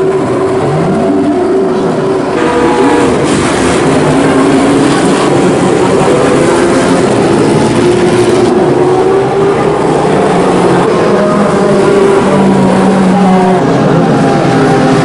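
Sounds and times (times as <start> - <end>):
racing car engines running: 0.0 - 15.0.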